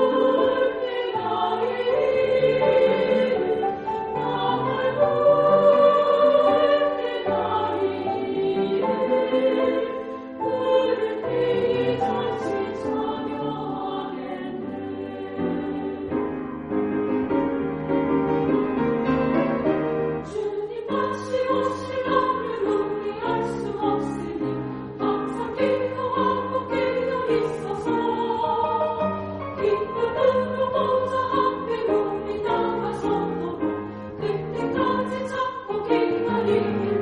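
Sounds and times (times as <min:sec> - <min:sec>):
women's choir singing: 0:00.0 - 0:16.4, 0:20.2 - 0:37.0.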